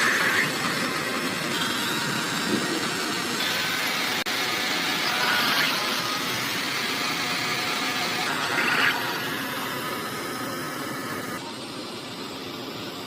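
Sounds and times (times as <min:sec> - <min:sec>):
small motor running: 0:00.0 - 0:13.0.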